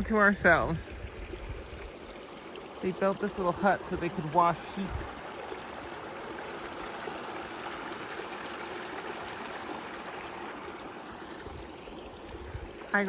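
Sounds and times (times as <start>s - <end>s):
flowing stream: 0.0s - 13.0s.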